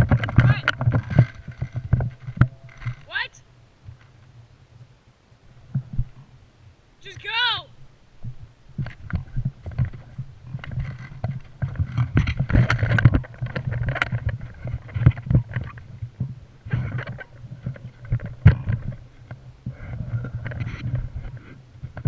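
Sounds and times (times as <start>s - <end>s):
irregular thumps: 0.0s - 3.2s, 5.6s - 6.4s, 8.2s - 22.0s.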